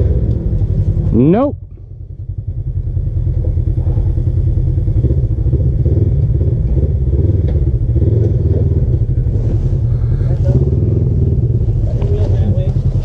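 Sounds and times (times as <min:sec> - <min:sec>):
engine rumbling steadily: 0:00.0 - 0:13.0.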